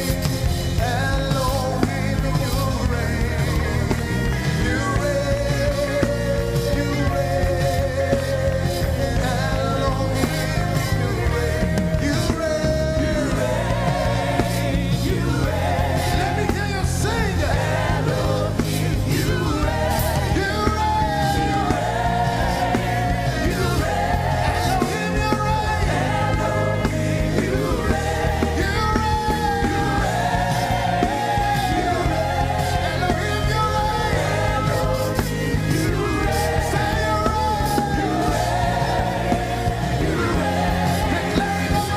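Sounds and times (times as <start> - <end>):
band with bass line: 0.0 - 41.9
voices singing worship music: 0.0 - 41.9.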